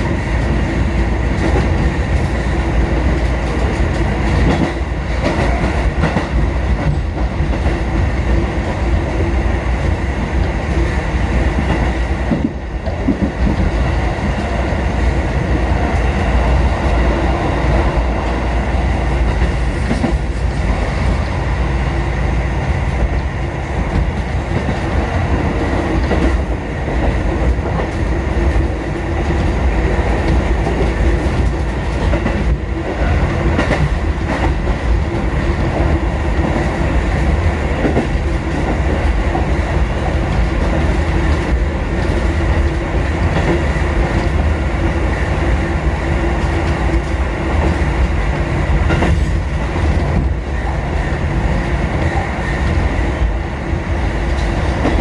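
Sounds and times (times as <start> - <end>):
wheel clacks on rail: 0.0 - 14.6, 19.2 - 21.4, 22.8 - 53.4, 54.2 - 55.0
electric train rumbling: 0.0 - 55.0.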